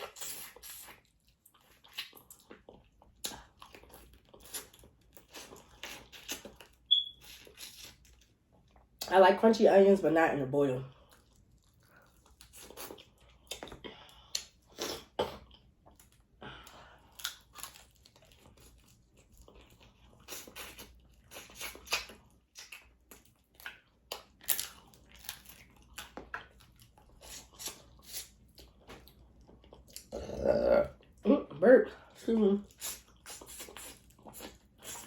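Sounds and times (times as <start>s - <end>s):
food crunching: 0.0s - 9.1s, 11.0s - 30.2s
wet chewing and smacking: 0.0s - 9.1s, 10.9s - 30.2s, 32.6s - 35.0s.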